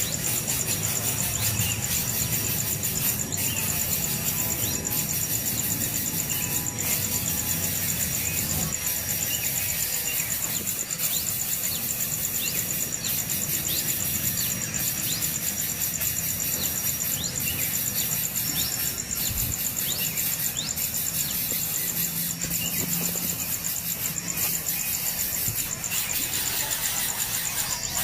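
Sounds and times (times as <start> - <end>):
high insect trill: 0.0 - 28.0.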